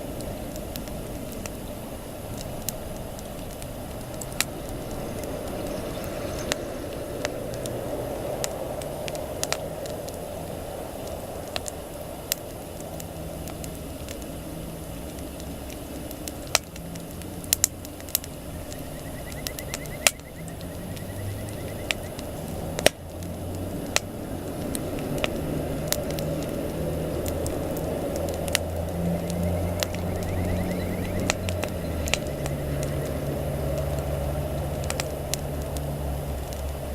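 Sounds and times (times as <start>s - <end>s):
campfire crackling and popping: 0.0s - 36.9s.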